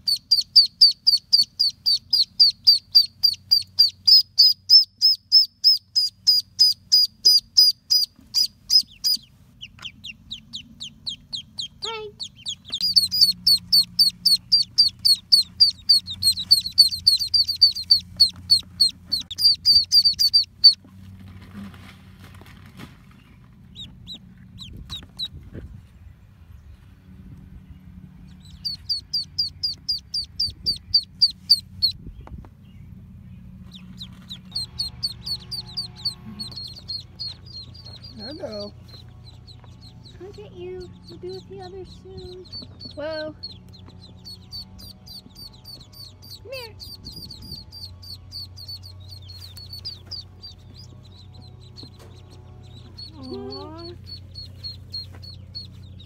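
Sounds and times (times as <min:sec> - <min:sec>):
ducklings peeping: 0:00.0 - 0:21.9, 0:22.7 - 0:56.0.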